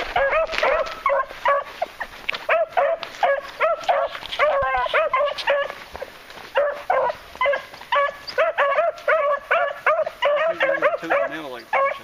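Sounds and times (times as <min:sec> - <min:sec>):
hounds barking and yelping: 0:00.0 - 0:12.0.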